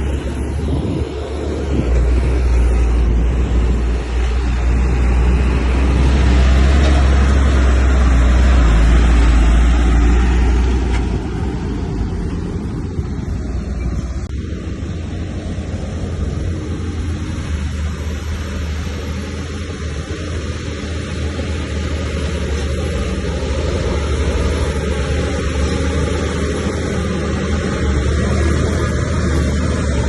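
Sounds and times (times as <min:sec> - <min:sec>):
diesel engine deep rumble: 0:00.0 - 0:30.0.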